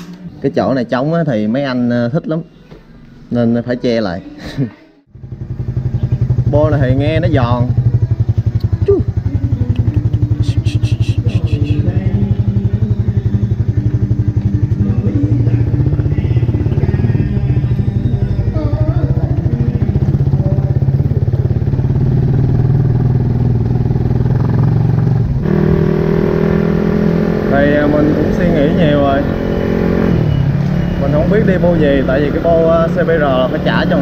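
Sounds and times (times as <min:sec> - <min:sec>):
motorcycle engine pulsing: 0:05.1 - 0:34.0.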